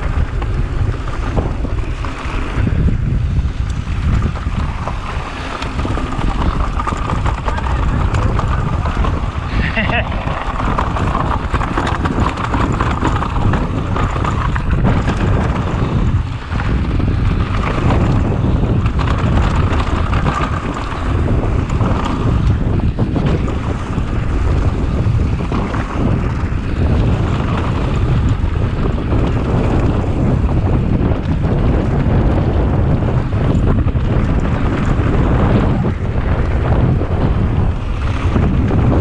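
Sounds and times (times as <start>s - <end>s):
bike rattling over bumps: 0.0s - 39.0s
bike tyre roar on dirt: 0.0s - 39.0s
wind buffeting microphone: 0.0s - 39.0s.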